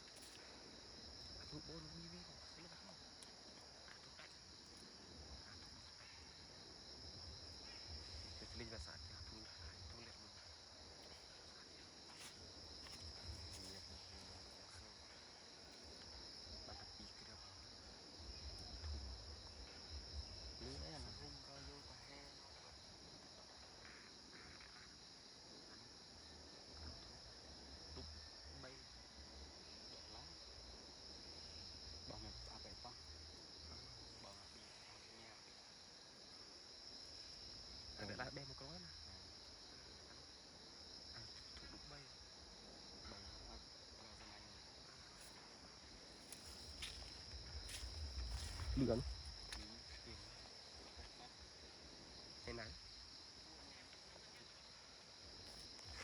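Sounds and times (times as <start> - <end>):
crickets chirping: 0.0 - 56.0
high-pitched insect chorus: 0.0 - 56.0.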